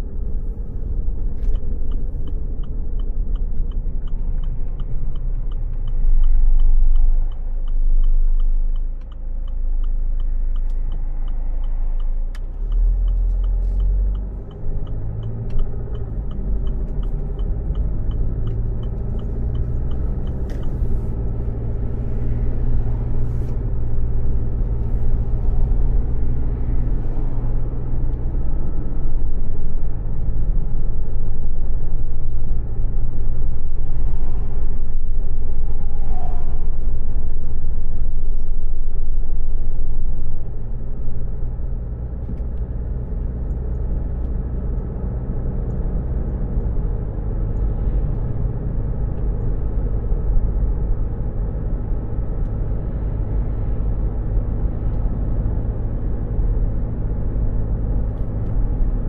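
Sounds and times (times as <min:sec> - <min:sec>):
car engine and road rumble: 0:00.0 - 0:59.0
turn signal clicking: 0:00.0 - 0:59.0.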